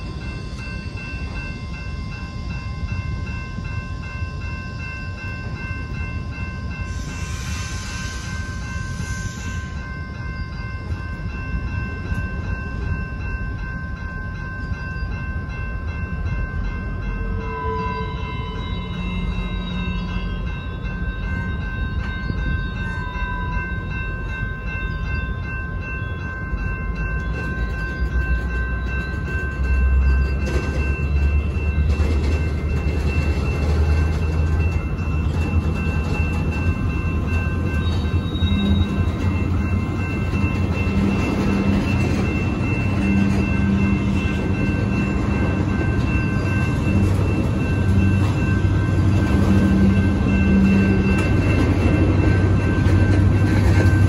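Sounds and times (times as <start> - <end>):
train wheels rumbling and clattering: 0.0 - 54.0.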